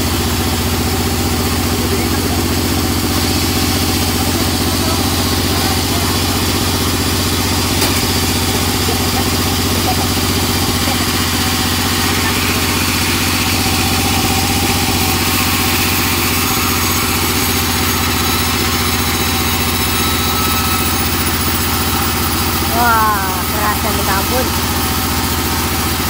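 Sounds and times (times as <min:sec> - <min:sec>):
band saw cutting wood: 0:00.0 - 0:26.0.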